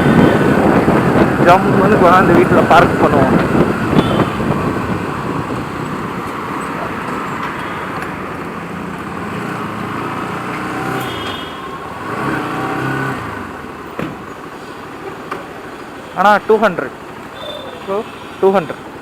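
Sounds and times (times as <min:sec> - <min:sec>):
motorcycle engine: 0:00.0 - 0:16.2
traffic: 0:00.0 - 0:19.0.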